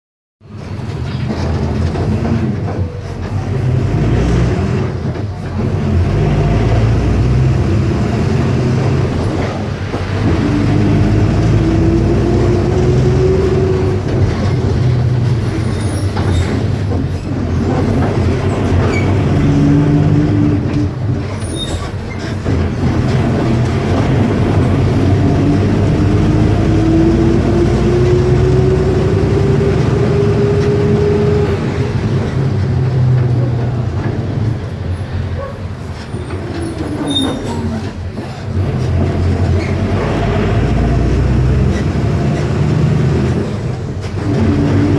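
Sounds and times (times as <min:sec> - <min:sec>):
diesel bus engine running: 0:00.4 - 0:44.9.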